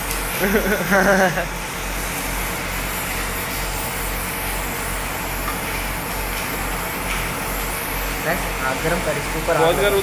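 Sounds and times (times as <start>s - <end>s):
welding torch flame hissing: 0.0s - 10.0s.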